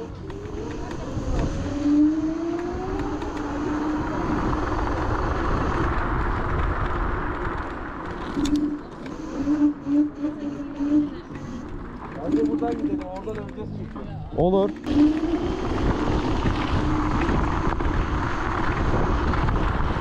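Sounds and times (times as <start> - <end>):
electric scooter motors whining: 0.0 - 20.0
rushing wind and tyres: 0.0 - 20.0.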